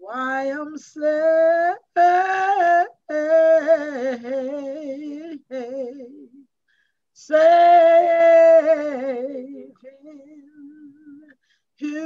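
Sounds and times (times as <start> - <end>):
woman singing gospel unaccompanied: 0.0 - 6.5, 7.2 - 12.0.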